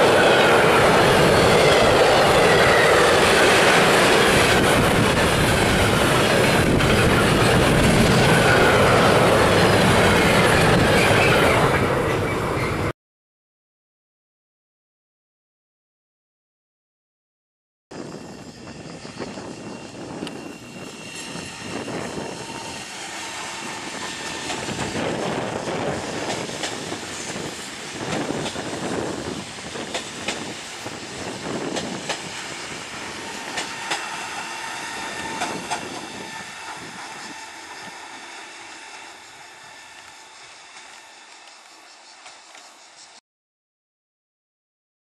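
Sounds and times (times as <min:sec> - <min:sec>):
train passing at speed: 0:00.0 - 0:12.9, 0:17.9 - 0:43.2.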